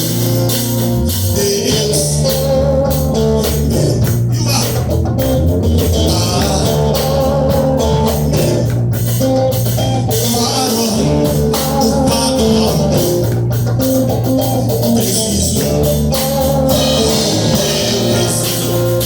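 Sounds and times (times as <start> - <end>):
band playing instrumental: 0.0 - 19.0.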